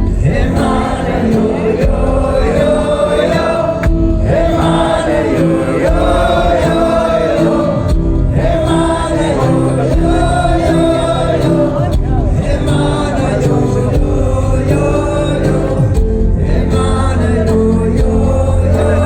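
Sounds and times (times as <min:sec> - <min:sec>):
live band backing: 0:00.0 - 0:19.0.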